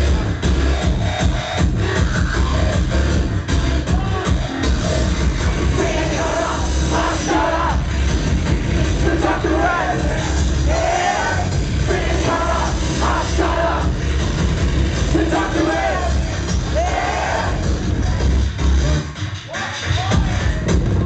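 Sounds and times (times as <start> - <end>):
loud electronic music with bass beat: 0.0 - 21.0.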